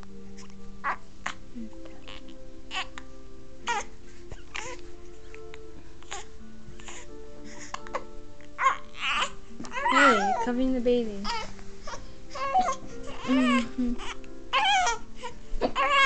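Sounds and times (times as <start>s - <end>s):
baby whimpering cry: 0.3s - 10.5s, 11.2s - 16.0s.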